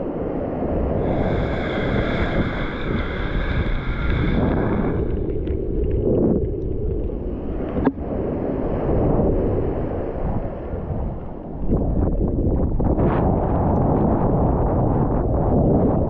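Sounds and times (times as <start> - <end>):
rushing water and waves: 0.0 - 16.0
wind buffeting microphone: 0.0 - 16.0.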